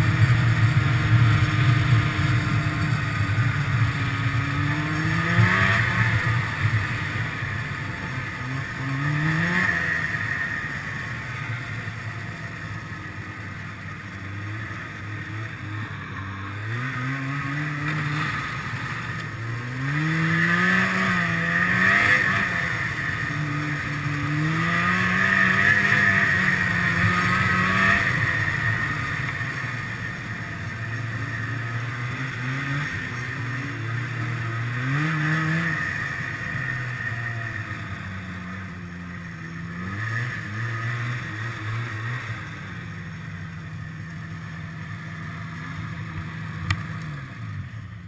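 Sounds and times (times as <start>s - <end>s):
snowmobile engine revving: 0.0s - 48.0s.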